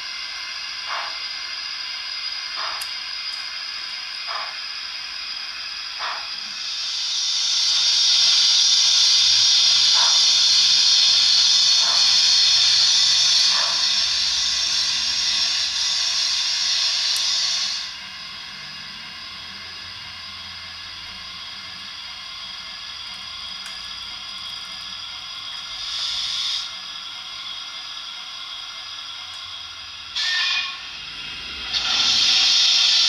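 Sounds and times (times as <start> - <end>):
faint steam exhaust beats: 0.0 - 33.0
steam hiss from small speaker: 0.0 - 33.0.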